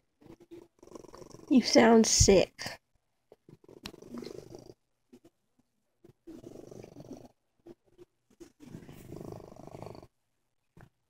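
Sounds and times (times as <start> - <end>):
cat purring: 0.2 - 5.3, 6.0 - 10.2.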